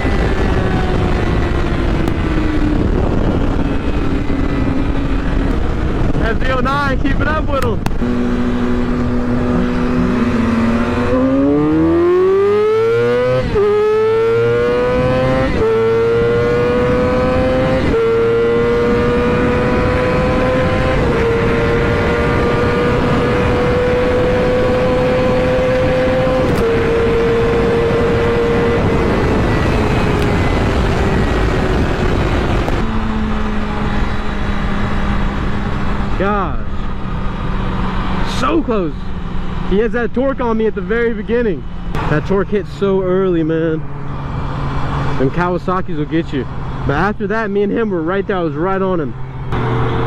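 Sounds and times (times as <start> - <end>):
wind rush: 0.0 - 46.9
motorcycle engine accelerating: 0.0 - 50.0.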